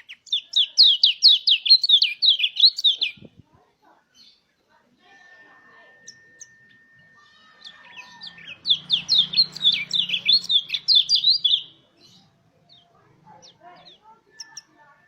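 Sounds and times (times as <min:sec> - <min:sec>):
bird sharp high chirps: 0:00.0 - 0:03.4, 0:05.7 - 0:14.9.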